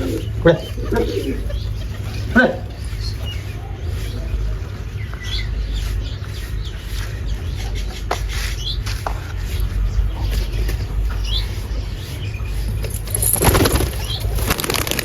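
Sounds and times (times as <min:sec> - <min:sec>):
steady low rumble: 0:00.0 - 0:14.5
bird chirps: 0:00.0 - 0:14.9.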